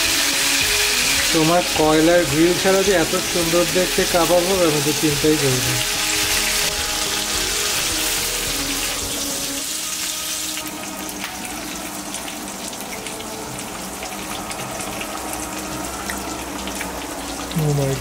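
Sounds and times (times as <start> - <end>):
meat sizzling in a grill pan: 0.0 - 18.0.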